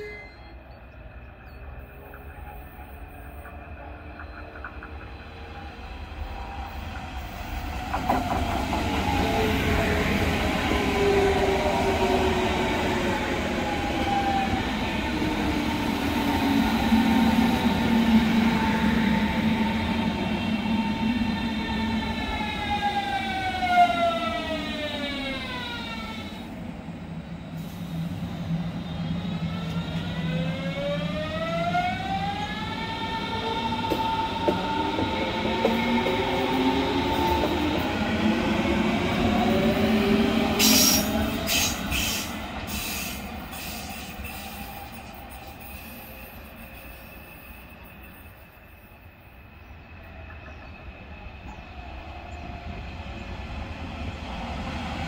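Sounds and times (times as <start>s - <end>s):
electric train rumble: 0.0s - 55.0s.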